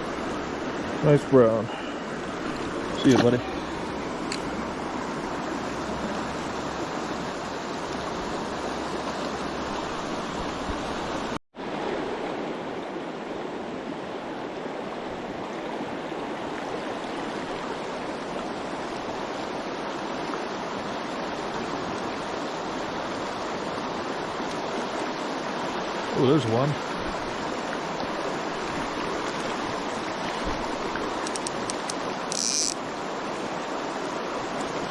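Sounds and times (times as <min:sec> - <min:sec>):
river current rushing: 0:00.0 - 0:34.9.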